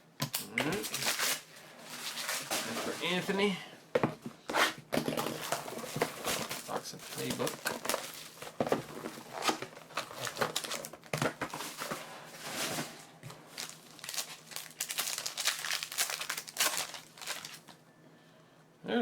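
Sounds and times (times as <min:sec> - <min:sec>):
plastic wrapping crinkling and tearing: 0:00.6 - 0:03.4, 0:05.2 - 0:17.8.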